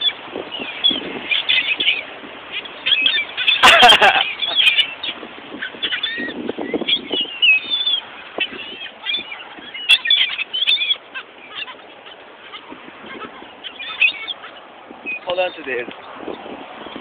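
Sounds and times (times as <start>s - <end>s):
birds squawking: 0.0s - 17.0s.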